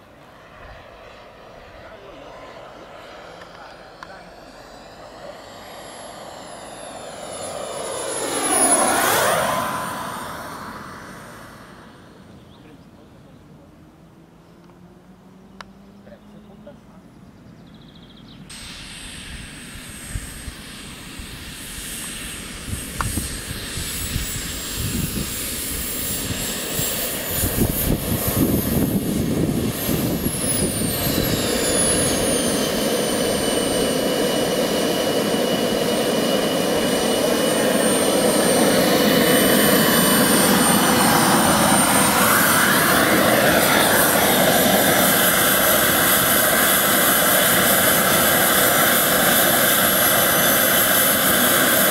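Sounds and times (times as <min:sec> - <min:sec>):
model jet turbine whining: 0:00.0 - 0:12.5, 0:18.5 - 0:51.9.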